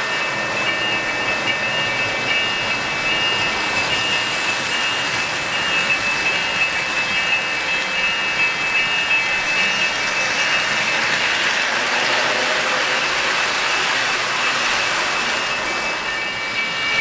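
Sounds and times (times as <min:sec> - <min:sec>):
model train wheels rolling on rails: 0:00.0 - 0:17.0.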